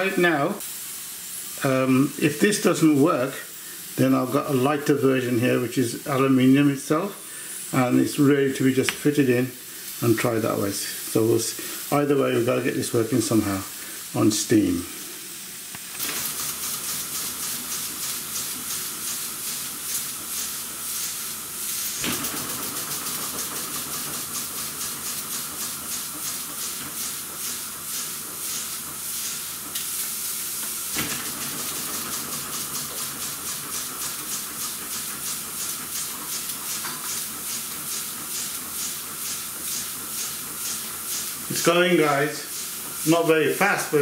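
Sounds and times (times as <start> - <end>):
steam hissing: 0.0 - 44.0.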